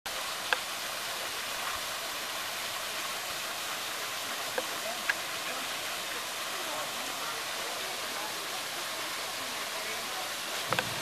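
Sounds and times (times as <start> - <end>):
water rushing down rock wall: 0.1 - 11.0.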